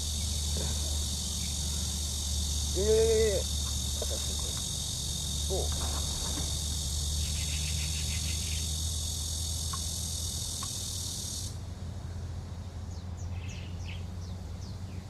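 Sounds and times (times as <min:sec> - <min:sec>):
high-pitched insect chorus: 0:00.0 - 0:15.0
low steady rumble: 0:00.0 - 0:15.0.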